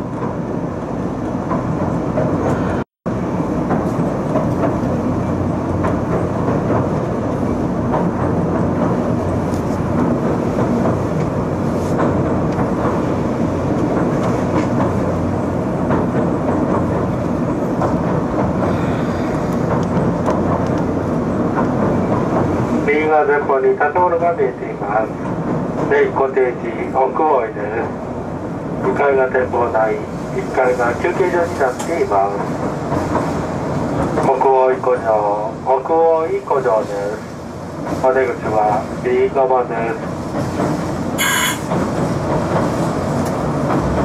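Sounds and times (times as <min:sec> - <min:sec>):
clickety-clack over rail joints: 0:00.0 - 0:44.0
train wheels rumbling on rails: 0:00.0 - 0:44.0.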